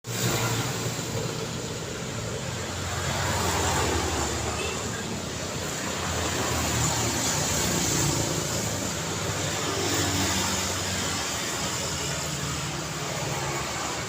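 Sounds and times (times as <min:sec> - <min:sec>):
cars passing on road: 0:00.0 - 0:14.0.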